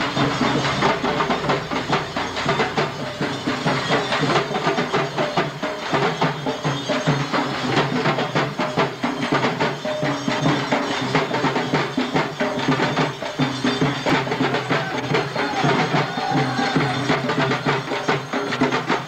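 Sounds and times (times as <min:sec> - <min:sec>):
fast hand-drumming: 0:00.0 - 0:19.0.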